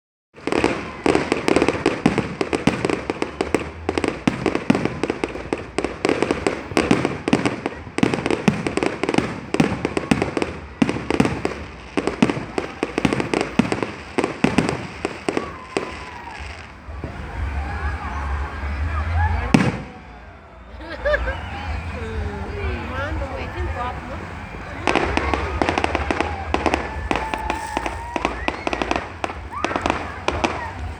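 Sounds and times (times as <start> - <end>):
fireworks bangs and pops: 0.4 - 17.6, 19.4 - 20.0, 21.7 - 30.9.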